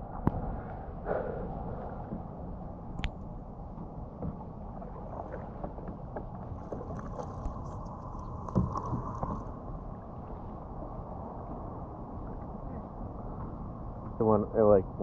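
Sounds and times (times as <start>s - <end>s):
water splashing and lapping: 0.0s - 13.6s
wind rumble on microphone: 0.0s - 15.0s.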